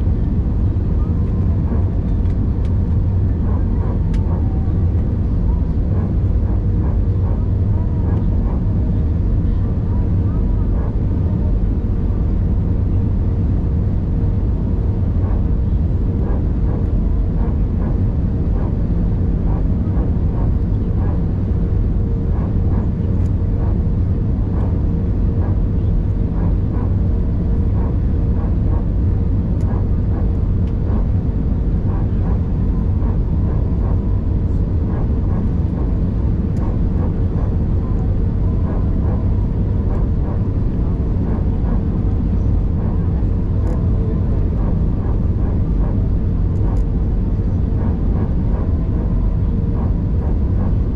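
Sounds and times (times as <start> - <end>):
airplane cabin engine rumble: 0.0 - 50.9
steady hum: 0.0 - 50.9.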